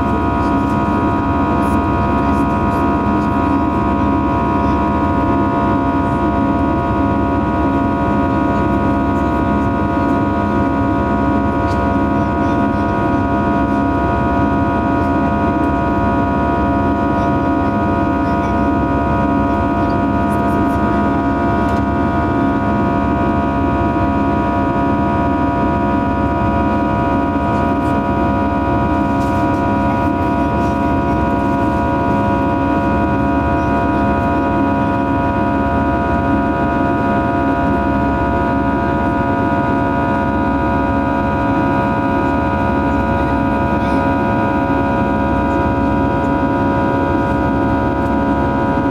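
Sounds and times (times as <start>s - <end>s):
airplane cabin engine drone: 0.0s - 48.9s.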